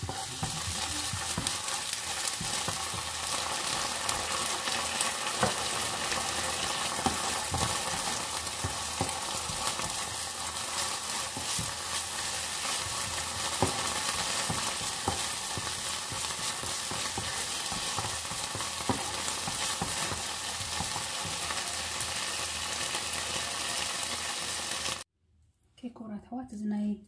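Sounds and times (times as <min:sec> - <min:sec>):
wooden spoon scraping a pan: 0:00.0 - 0:22.1
vegetables sizzling in oil: 0:00.0 - 0:25.1.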